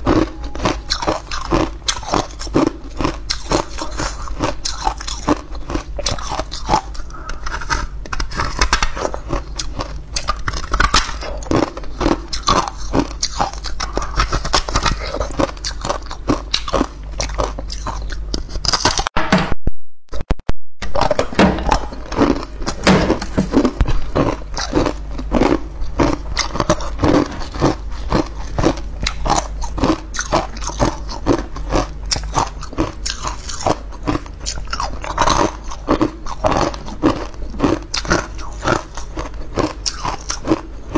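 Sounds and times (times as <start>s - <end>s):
ice cubes crunching: 0.0s - 19.0s, 20.9s - 40.9s
steady low hum: 0.0s - 40.9s.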